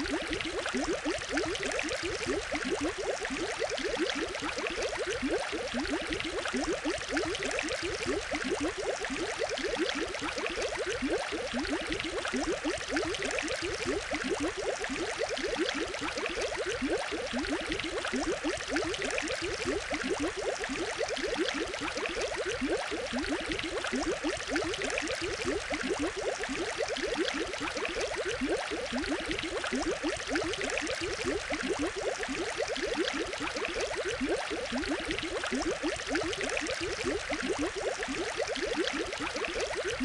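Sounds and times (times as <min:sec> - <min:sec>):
aquarium water bubbling: 0:00.0 - 0:40.0.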